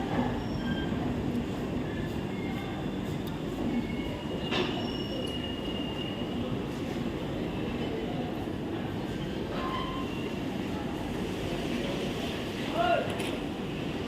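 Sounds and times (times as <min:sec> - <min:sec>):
train rumbling along rails: 0:00.0 - 0:14.0.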